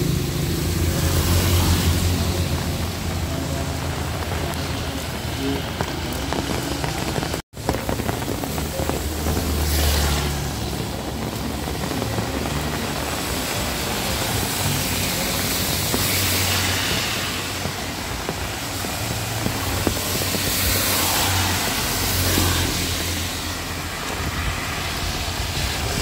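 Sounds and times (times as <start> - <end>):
heavy rain falling: 0.0 - 26.0
vehicles passing on wet road: 0.0 - 26.0.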